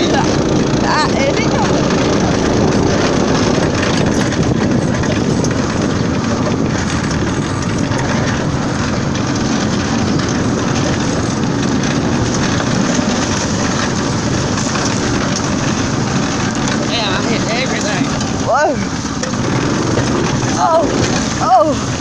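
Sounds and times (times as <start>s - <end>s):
golf cart driving: 0.0s - 22.0s
rattles and knocks: 0.0s - 22.0s.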